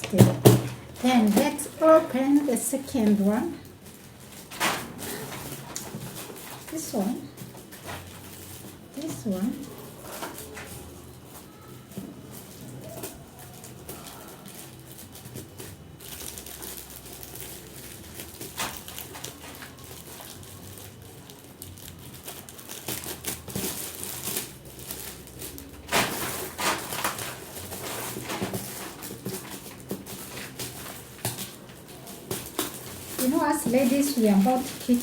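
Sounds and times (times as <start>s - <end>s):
wrapping paper tearing and crinkling: 0.0s - 35.0s.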